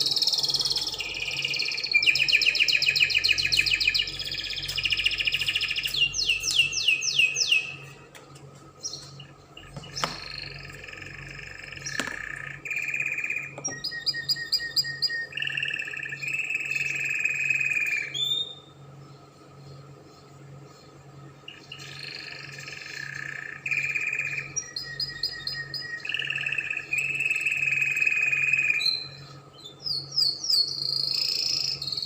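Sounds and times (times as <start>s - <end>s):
canary singing trills: 0.0s - 8.1s, 8.8s - 32.0s.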